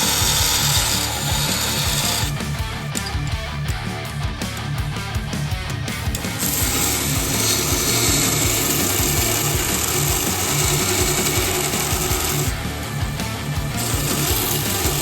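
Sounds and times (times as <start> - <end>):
belt grinder grinding steel: 0.0 - 3.6, 5.9 - 15.0.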